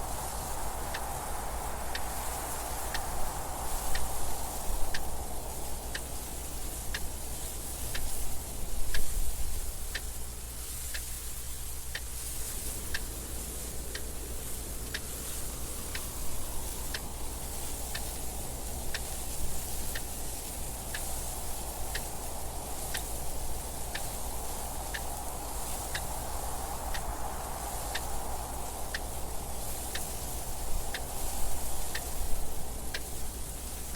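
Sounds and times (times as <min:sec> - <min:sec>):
wind noise: 0:00.0 - 0:33.9
clock ticking: 0:01.9 - 0:10.2, 0:10.9 - 0:33.9.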